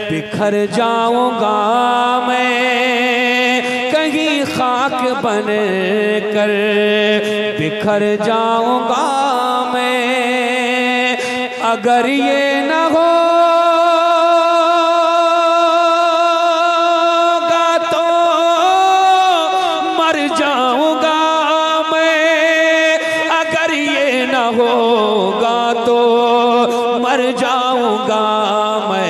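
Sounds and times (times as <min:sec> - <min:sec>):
man singing: 0:00.0 - 0:29.0.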